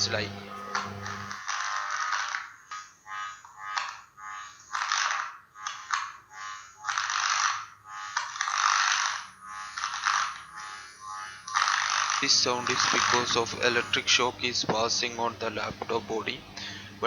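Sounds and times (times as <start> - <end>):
harsh electrical buzz: 0.0 - 17.0.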